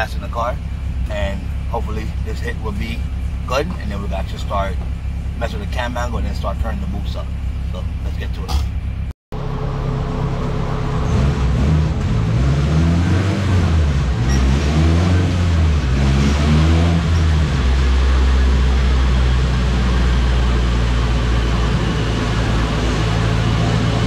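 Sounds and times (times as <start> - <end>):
car engine droning on dyno: 0.0 - 24.0.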